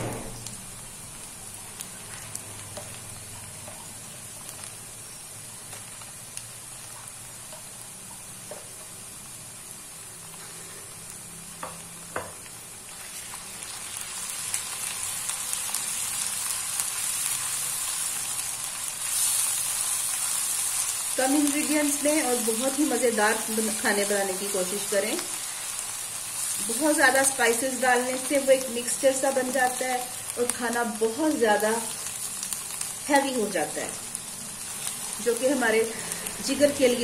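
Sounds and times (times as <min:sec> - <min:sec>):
onions sizzling in hot oil: 0:00.0 - 0:37.0.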